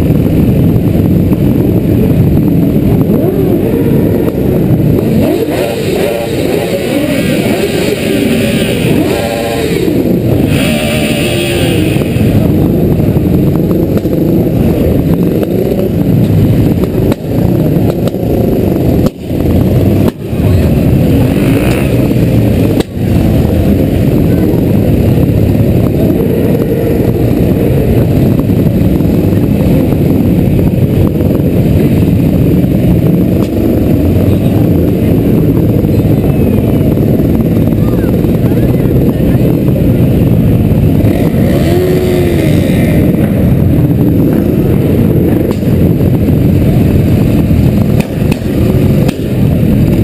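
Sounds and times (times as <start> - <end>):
motorcycle engines running low: 0.0 - 50.0.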